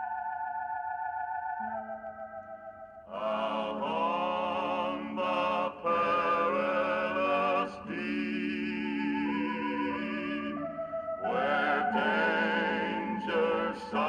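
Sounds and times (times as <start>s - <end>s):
choir-like voices holding notes: 0.0s - 14.0s
soft held chord: 0.0s - 14.0s.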